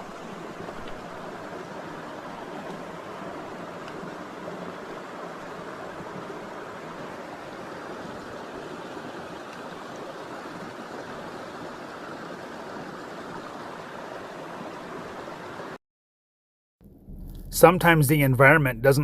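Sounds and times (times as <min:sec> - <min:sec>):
small waterfall rushing: 0:00.0 - 0:15.8.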